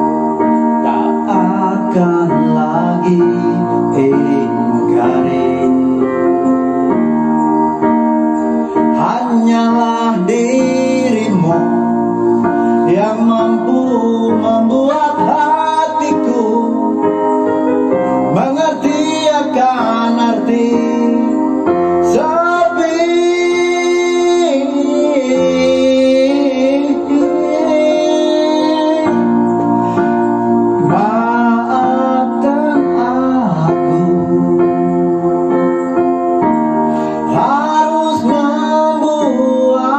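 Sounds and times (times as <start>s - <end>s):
instrumental accompaniment: 0.0s - 39.9s
person singing: 0.0s - 39.9s
slow song with guitar and keyboard: 0.0s - 39.9s.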